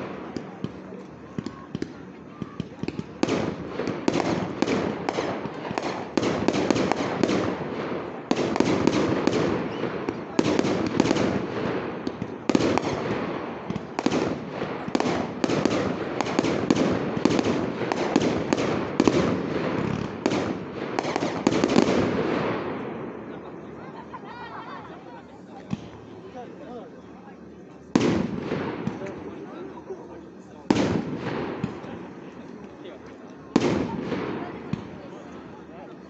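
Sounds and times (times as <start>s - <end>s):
fireworks bursting: 0.0s - 26.3s, 27.4s - 36.0s.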